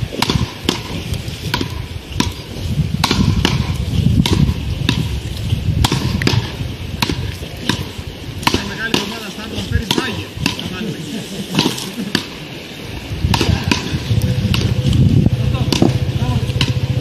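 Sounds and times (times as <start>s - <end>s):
wooden rackets hitting ball: 0.0s - 10.8s, 11.5s - 12.4s, 13.3s - 14.8s, 15.6s - 16.8s
low rumbling noise: 0.0s - 17.0s.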